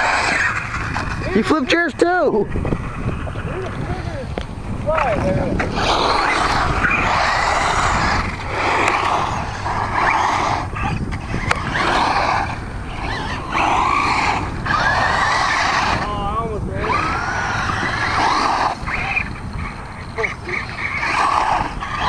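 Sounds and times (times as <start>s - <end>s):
faint motor whine: 0.0s - 22.0s
rc trucks throttling: 0.0s - 22.0s
tires scrabbling on dirt: 0.0s - 22.0s.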